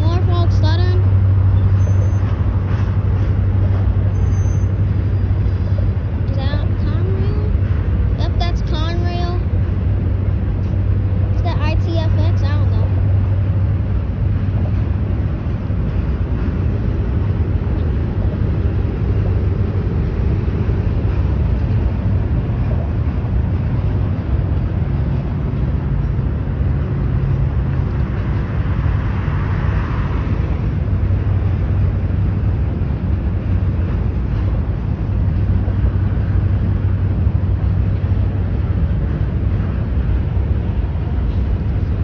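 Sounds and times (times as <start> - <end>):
constant low hum: 0.0 - 42.0
train wheels rumbling on rails: 0.0 - 42.0.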